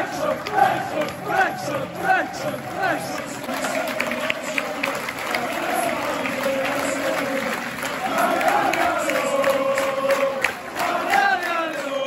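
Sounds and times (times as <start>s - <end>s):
crowd singing a chant: 0.0s - 12.0s
hands clapping: 0.0s - 12.0s.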